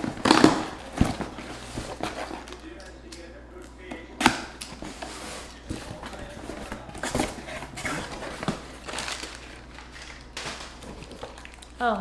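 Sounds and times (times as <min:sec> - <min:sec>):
packaging rustling and crinkling: 0:00.0 - 0:11.8.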